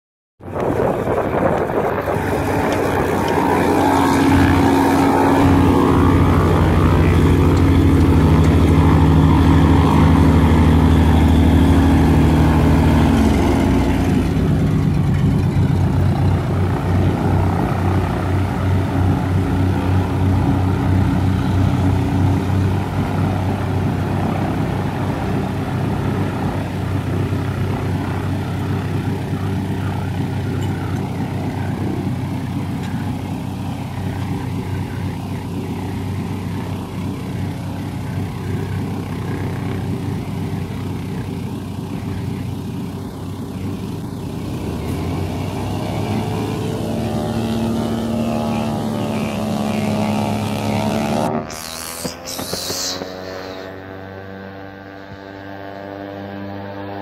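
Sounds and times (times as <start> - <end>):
propeller plane engine droning: 0.4 - 57.0.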